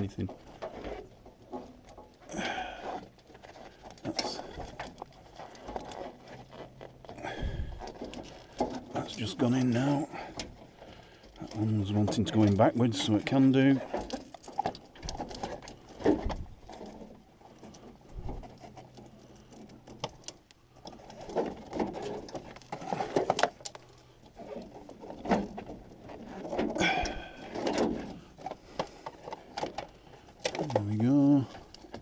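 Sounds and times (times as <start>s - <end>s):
plastic connectors clicking and rustling: 0.0s - 32.0s.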